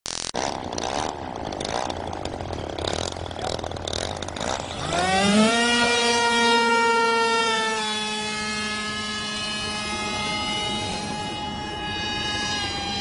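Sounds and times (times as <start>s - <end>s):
model aircraft engine: 0.2s - 13.0s.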